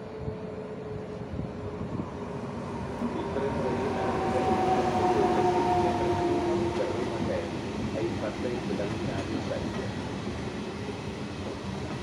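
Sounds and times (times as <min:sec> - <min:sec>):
train passing with rumble and whine: 0:00.0 - 0:12.0.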